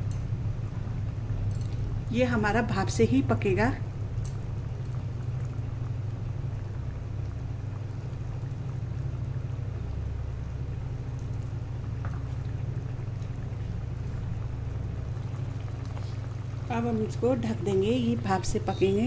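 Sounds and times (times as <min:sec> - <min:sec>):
kitchen stove humming: 0:00.0 - 0:19.0.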